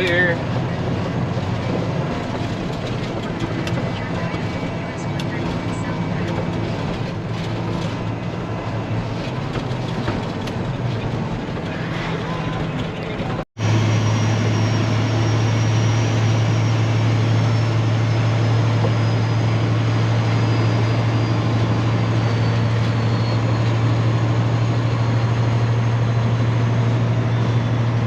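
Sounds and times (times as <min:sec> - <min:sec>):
road and wind noise: 0:00.0 - 0:28.0
truck engine hum: 0:00.0 - 0:28.0.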